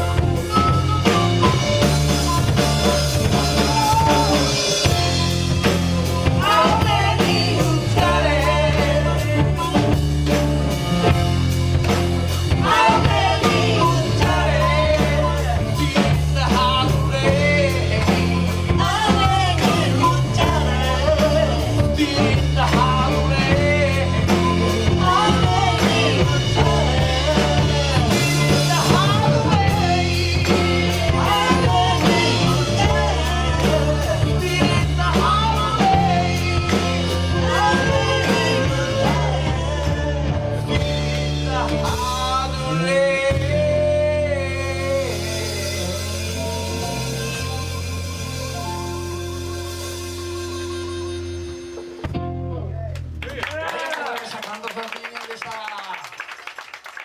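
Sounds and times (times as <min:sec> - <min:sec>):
person singing: 0:00.0 - 0:11.2, 0:12.4 - 0:51.0
soul band playing: 0:00.0 - 0:53.5.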